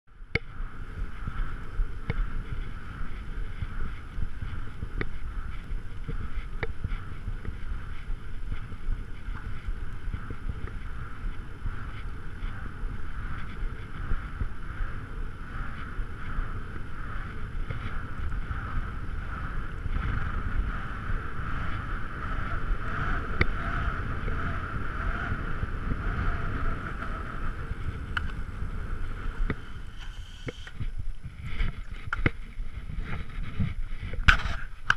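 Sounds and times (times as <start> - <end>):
bike tyres rumbling on asphalt: 0.1 - 34.9
high whine: 0.1 - 34.9
wind buffeting microphone: 0.1 - 34.9.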